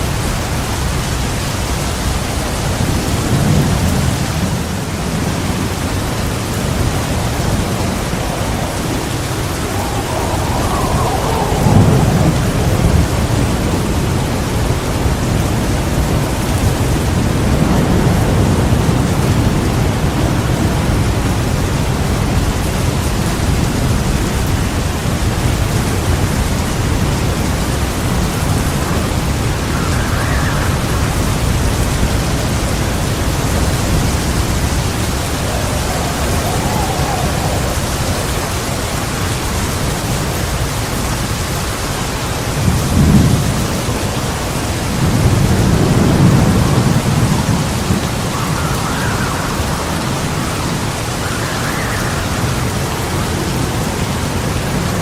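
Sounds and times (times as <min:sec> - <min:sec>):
heavy rain pouring: 0:00.0 - 0:55.0
low rolling thunder: 0:00.0 - 0:55.0.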